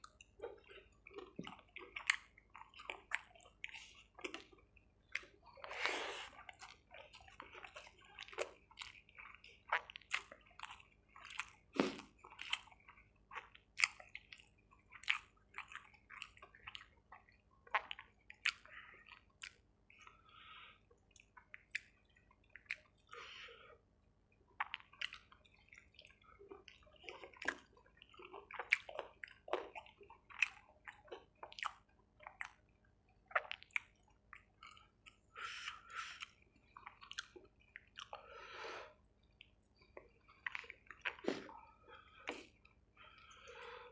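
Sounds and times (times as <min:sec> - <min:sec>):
close chewing and mouth sounds: 0:00.0 - 0:43.9.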